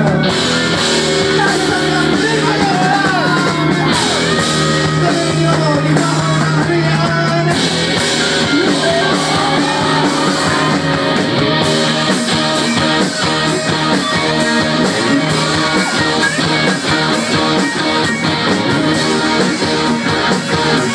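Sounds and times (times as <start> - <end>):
rock band playing: 0.0 - 20.9.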